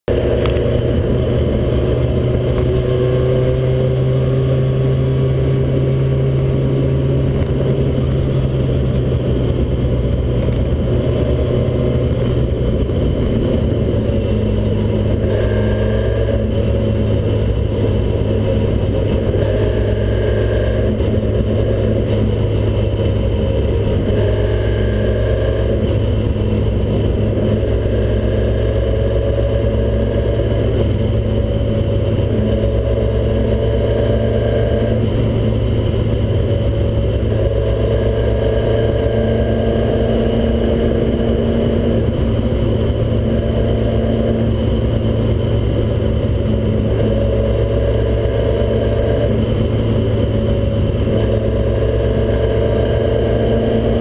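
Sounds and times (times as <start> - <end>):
car engine and road drone: 0.0 - 54.0.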